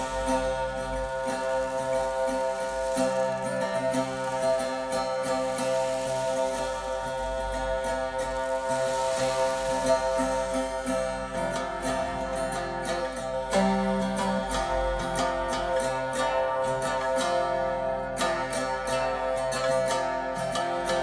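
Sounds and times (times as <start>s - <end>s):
bowed string drone: 0.0s - 21.0s.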